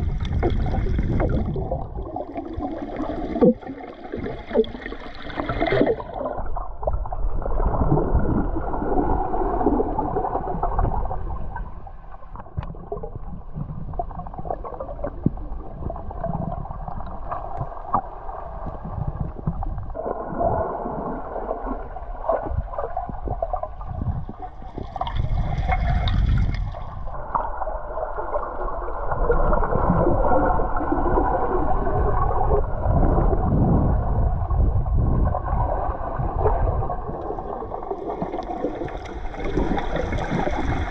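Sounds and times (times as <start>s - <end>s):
underwater gurgling and rushing: 0.0s - 40.9s.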